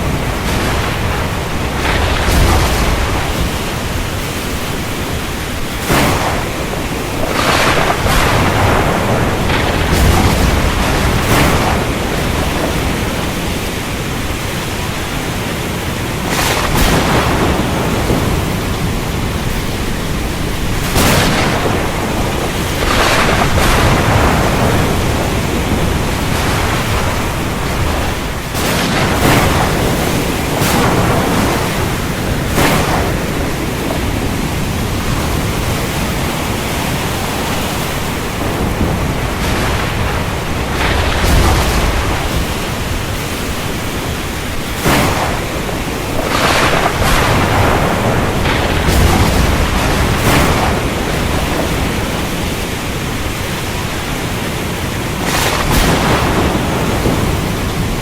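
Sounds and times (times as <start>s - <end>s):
heavy rain: 0.0s - 58.0s
thunder cracks: 0.0s - 58.0s.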